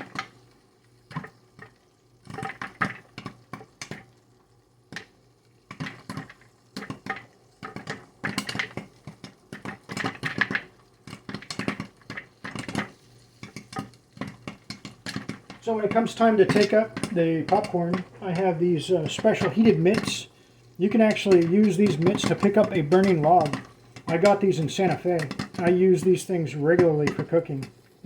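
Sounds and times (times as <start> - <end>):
popcorn kernels popping: 0.0 - 0.4, 1.1 - 4.2, 4.9 - 27.8
faint stirring motor hum: 0.0 - 28.0.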